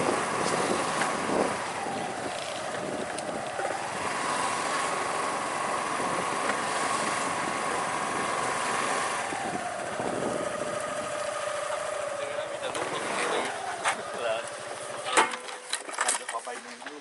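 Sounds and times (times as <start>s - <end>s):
sports car engines running: 0.0s - 16.0s.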